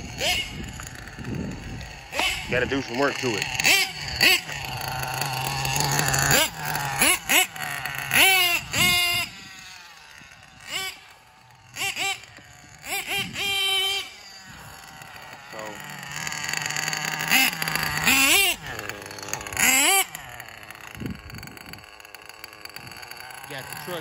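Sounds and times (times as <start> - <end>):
rc car nitro engine revving: 0.0 - 24.0.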